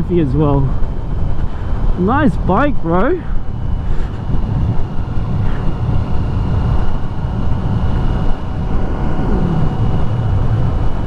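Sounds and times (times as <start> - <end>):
wind rush on microphone: 0.0 - 11.0
motorcycle engine running: 0.8 - 11.0.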